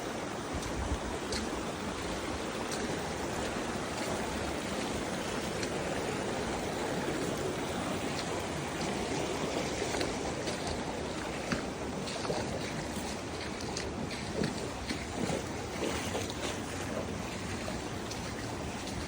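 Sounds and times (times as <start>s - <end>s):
water rushing over rocks: 0.0s - 19.0s.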